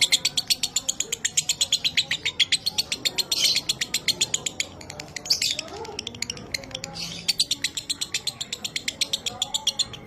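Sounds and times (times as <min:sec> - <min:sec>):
lovebird chattering: 0:00.0 - 0:10.0.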